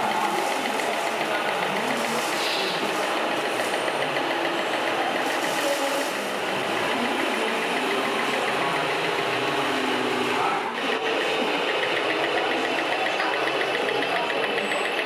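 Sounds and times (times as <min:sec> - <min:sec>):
model truck engine running: 0:00.0 - 0:15.0.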